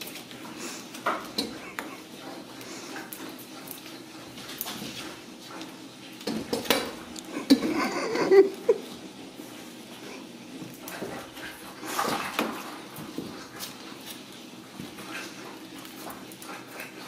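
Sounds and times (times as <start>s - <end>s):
paws scrabbling on wooden floor: 0.0s - 7.3s, 8.5s - 17.0s.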